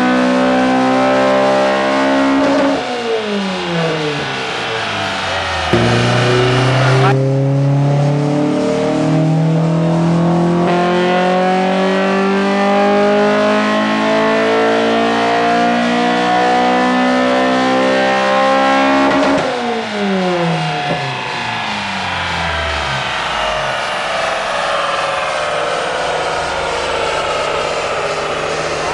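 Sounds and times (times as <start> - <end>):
engine revving at full throttle: 0.0 - 28.9.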